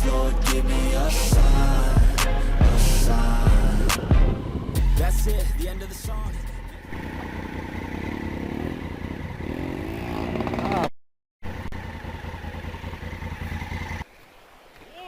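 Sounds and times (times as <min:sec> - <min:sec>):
motorcycle engine revving: 0:01.4 - 0:14.1.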